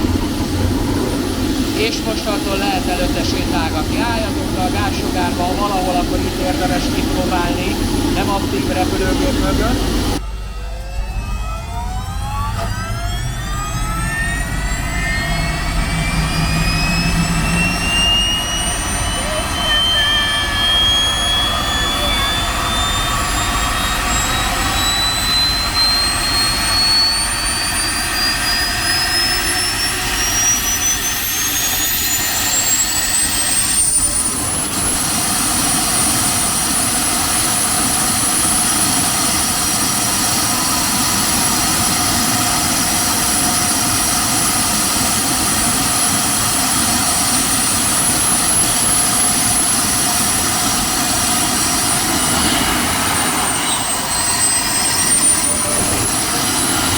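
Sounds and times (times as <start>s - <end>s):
exhaust rushing: 0.0s - 10.2s, 13.1s - 56.9s
gas turbine whine: 0.0s - 56.9s.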